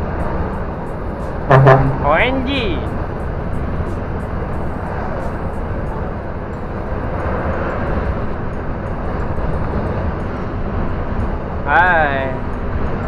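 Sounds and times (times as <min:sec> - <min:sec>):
diesel truck engine drone: 0:00.0 - 0:13.0
road and wind noise: 0:00.0 - 0:13.0.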